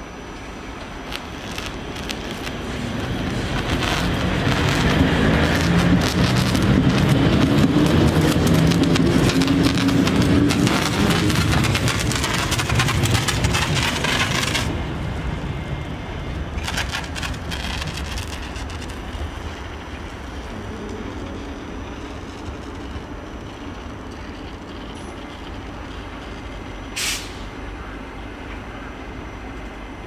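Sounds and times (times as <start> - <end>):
locomotive low hum: 0.0 - 30.0
locomotive crackling clatter: 0.8 - 27.5.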